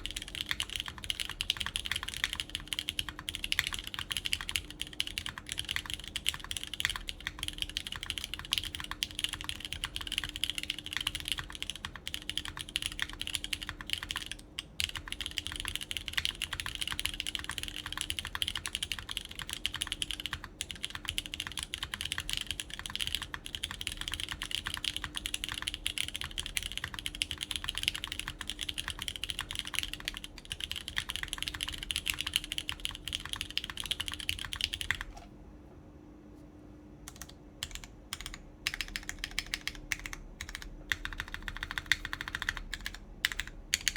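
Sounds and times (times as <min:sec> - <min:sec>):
fast typing on mechanical keyboard: 0:00.0 - 0:35.2, 0:37.1 - 0:43.9.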